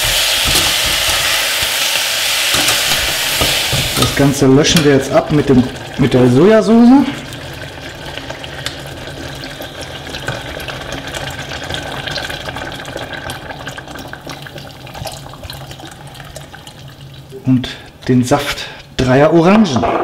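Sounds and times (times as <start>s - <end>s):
liquid pouring into hot pan: 0.0s - 17.9s.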